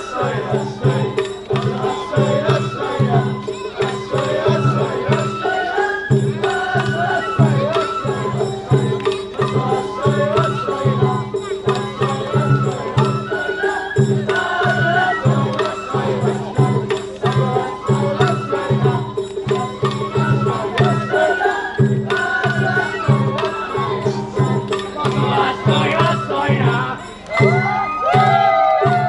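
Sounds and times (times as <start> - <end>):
bamboo flute melody: 0.0 - 29.0
taiko drums beating: 0.0 - 29.0.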